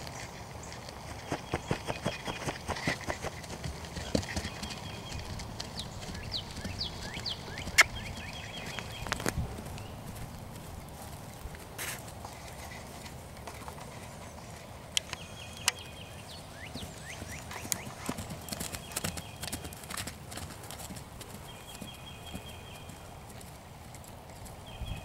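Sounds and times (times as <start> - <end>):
hooves thudding on grass: 0.0 - 25.0.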